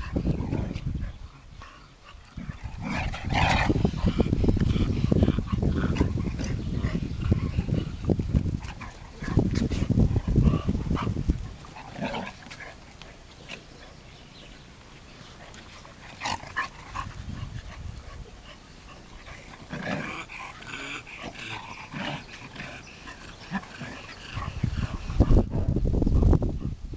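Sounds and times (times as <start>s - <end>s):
dogs growling: 0.0s - 14.1s, 15.2s - 25.8s.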